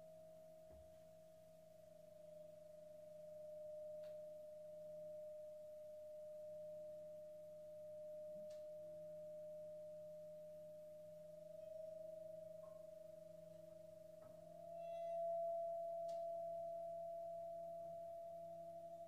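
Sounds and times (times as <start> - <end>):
soft low tone: 0.0 - 19.0.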